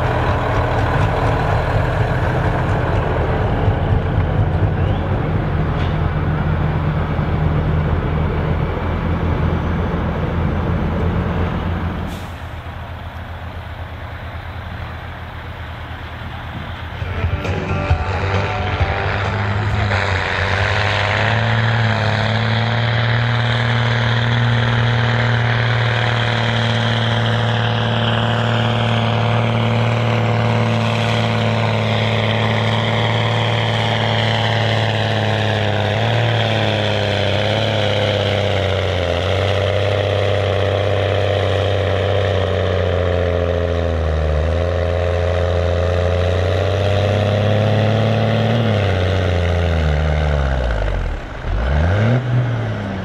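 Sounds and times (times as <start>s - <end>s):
tractor diesel engine under load: 0.0s - 53.0s.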